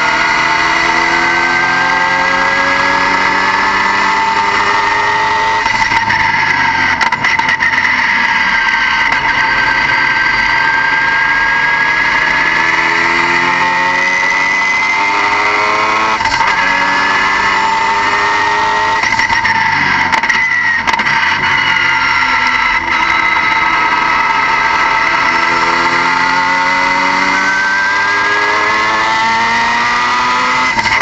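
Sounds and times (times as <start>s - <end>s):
high-pitched whine: 0.0s - 31.0s
car engine running: 0.1s - 31.0s.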